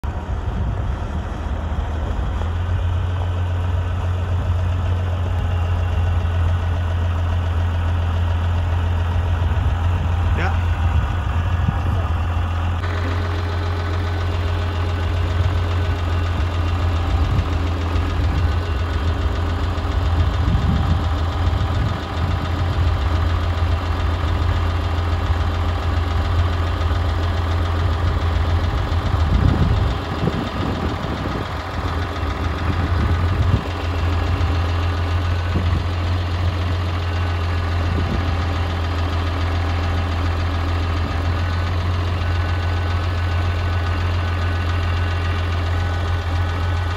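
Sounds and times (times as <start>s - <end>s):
diesel tractor engine idling: 0.0s - 46.9s.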